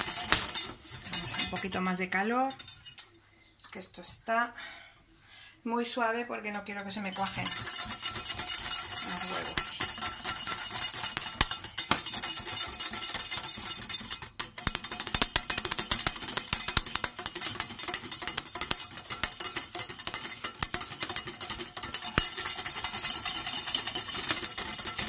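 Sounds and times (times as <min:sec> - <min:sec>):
whisk beating in metal saucepan: 0:00.0 - 0:03.0, 0:06.9 - 0:25.0.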